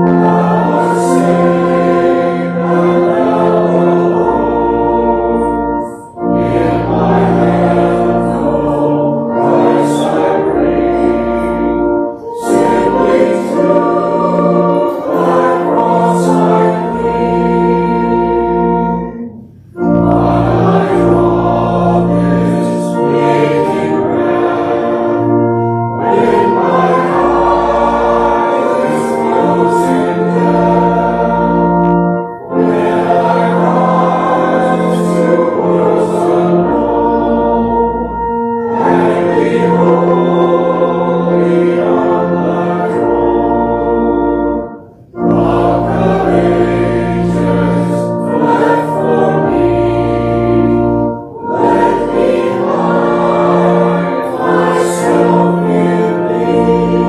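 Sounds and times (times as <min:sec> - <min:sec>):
congregation singing a hymn: 0:00.0 - 0:57.0
organ: 0:00.0 - 0:57.0.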